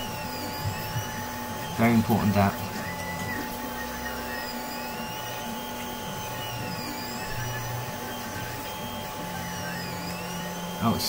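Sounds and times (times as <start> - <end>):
faint high whine: 0.0 - 11.0
machine hum and hiss: 0.0 - 11.0.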